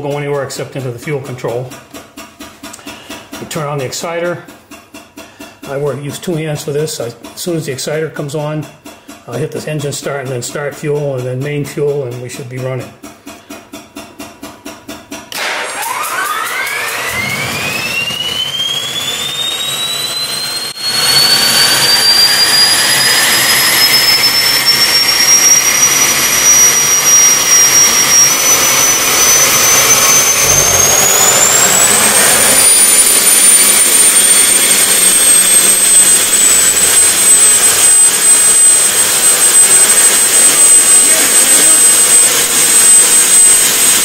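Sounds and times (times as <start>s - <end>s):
turbine engine whine: 0.0s - 44.0s.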